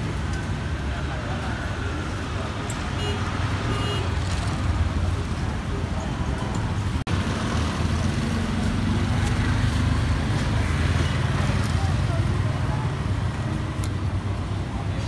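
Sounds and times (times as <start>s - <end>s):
road noise: 0.0s - 15.0s
traffic engines rumbling: 0.0s - 15.0s.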